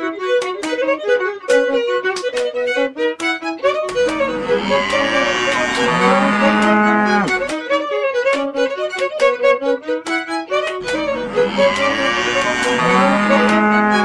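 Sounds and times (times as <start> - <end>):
fiddle music: 0.0 - 14.0.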